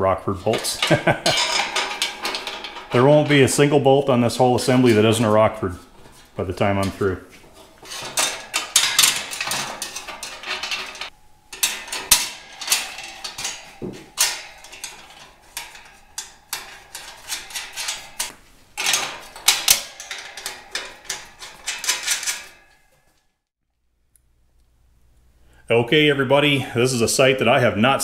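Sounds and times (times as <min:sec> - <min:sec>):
metal shroud clattering and scraping: 0:00.2 - 0:23.2.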